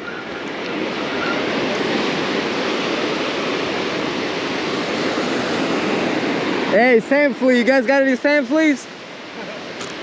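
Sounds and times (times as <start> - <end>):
ocean waves breaking: 0.0 - 10.0.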